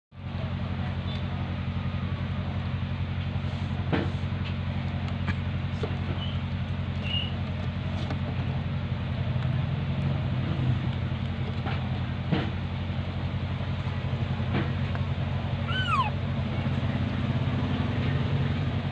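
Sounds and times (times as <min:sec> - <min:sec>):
low motor hum: 0:00.2 - 0:18.9.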